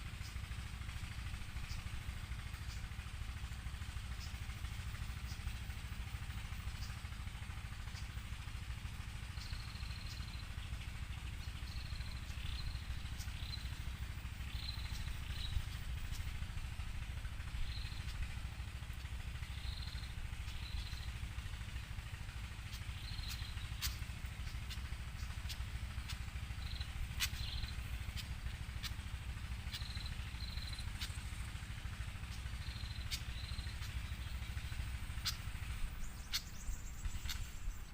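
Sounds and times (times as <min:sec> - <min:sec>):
small bird chirping: 0:00.2 - 0:00.6, 0:01.4 - 0:03.0, 0:03.8 - 0:37.9.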